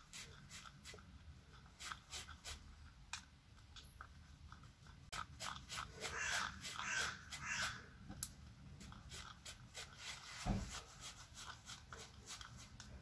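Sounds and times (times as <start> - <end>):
stick scraping resin from pot: 0.0 - 3.2, 5.0 - 7.9, 8.7 - 13.0.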